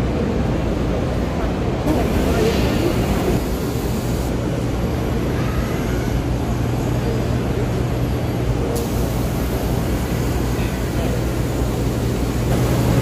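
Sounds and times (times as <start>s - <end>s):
din of busy exhibition hall: 0.0s - 13.0s
low machine hum: 0.0s - 13.0s.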